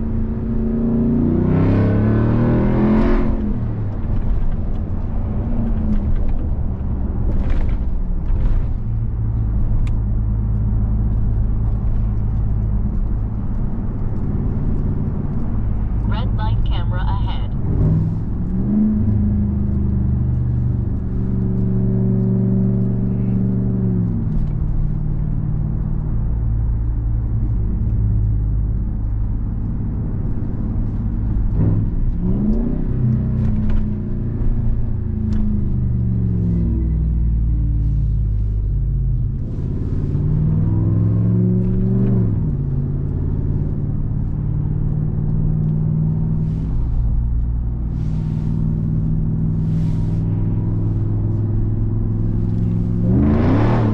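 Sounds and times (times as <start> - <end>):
truck engine accelerating: 0.0 - 27.0, 31.3 - 53.9.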